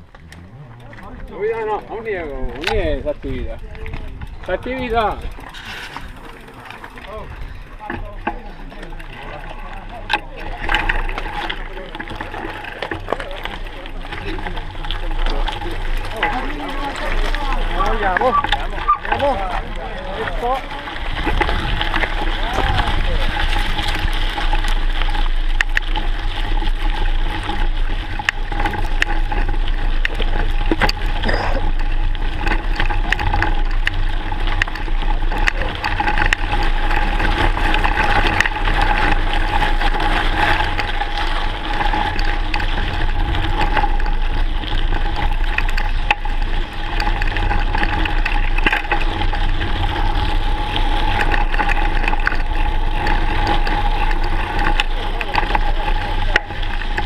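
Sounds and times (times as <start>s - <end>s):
bike tyres on gravel: 0.0s - 57.0s
clicks and knocks from stones: 0.0s - 57.0s.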